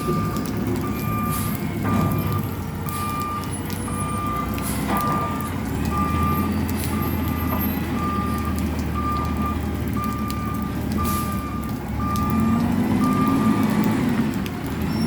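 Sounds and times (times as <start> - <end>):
truck backup alarm beeping: 0.0 - 14.2
diesel engine running: 0.0 - 15.0
water dripping and tapping: 0.0 - 15.0.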